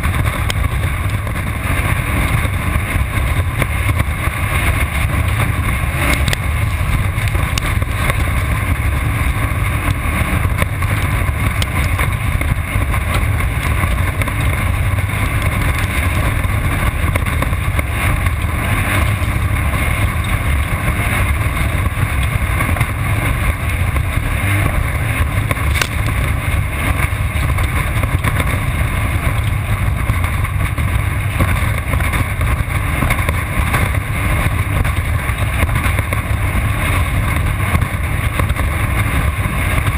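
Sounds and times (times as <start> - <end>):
race car engine drone: 0.0 - 39.9.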